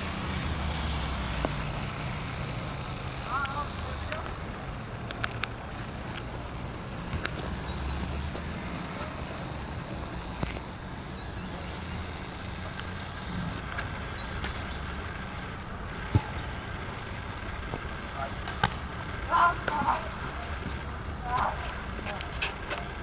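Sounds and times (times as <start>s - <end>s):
birds chirping: 0.0s - 23.0s
distant traffic rumble: 0.0s - 23.0s.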